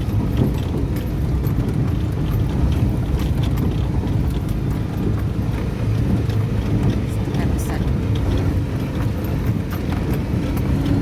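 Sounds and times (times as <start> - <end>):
engine low drone: 0.0 - 11.0.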